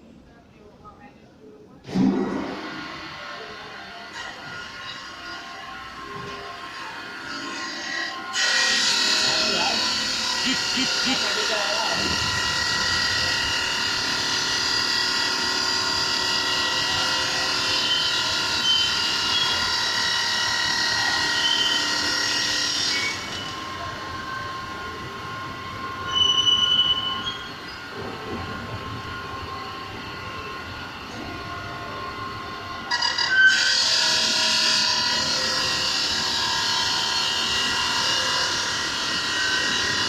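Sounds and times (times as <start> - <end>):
stone-cutting saw screeching whine: 2.6 - 40.0
saw squeal: 4.0 - 40.0.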